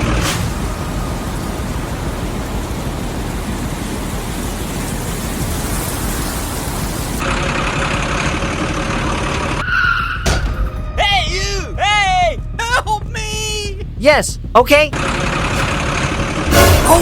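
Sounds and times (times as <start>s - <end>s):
vehicle engine running: 0.0s - 9.6s, 12.4s - 17.0s.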